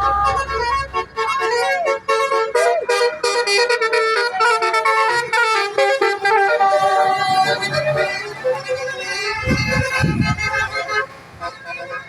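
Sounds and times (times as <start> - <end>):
musical horn playing a tune: 0.0 - 12.0.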